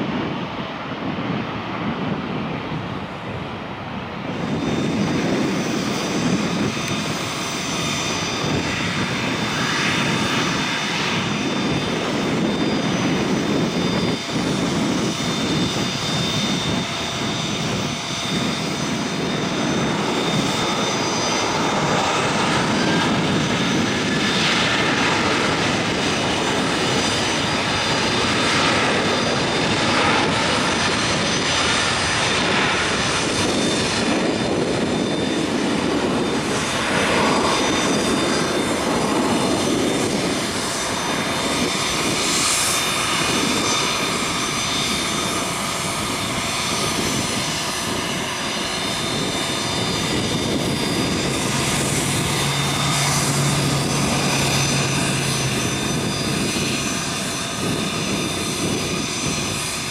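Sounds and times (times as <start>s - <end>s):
jet engine roar: 0.0s - 59.9s.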